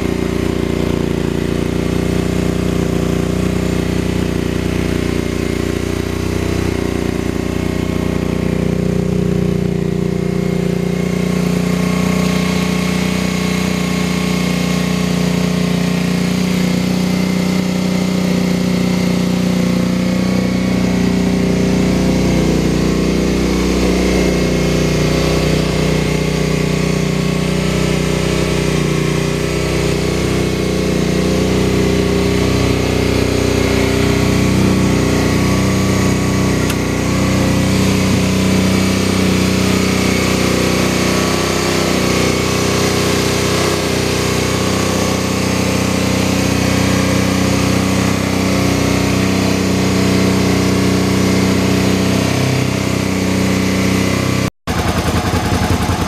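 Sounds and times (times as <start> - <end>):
buggy engine idling: 0.0 - 56.0.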